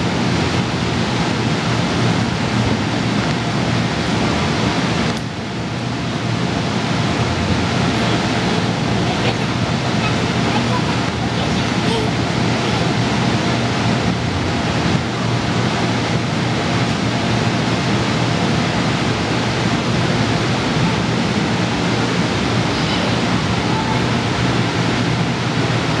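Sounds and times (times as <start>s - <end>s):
air blowers rushing: 0.0s - 26.0s.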